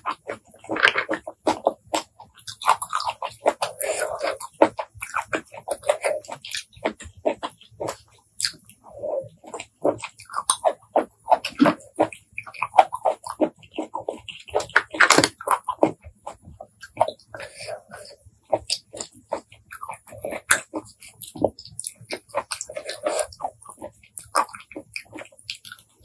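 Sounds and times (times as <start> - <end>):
wet chewing and lip smacking: 0.0 - 26.0.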